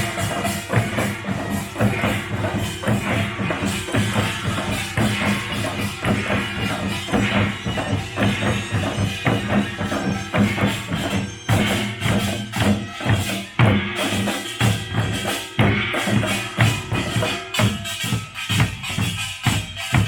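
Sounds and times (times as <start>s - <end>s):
percussion band playing loud drums: 0.0s - 20.0s.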